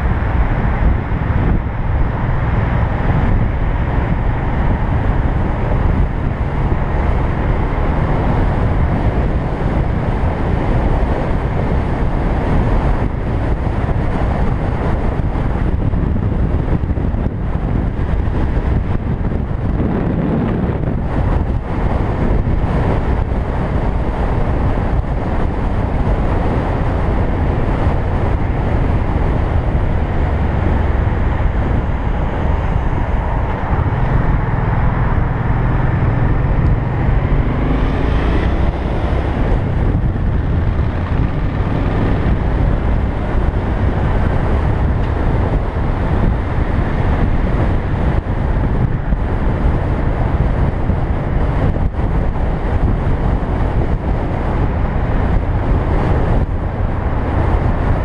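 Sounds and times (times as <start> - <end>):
motorcycle engine: 0.0 - 58.0
road noise: 0.0 - 58.0
wind rushing over microphone: 0.0 - 58.0.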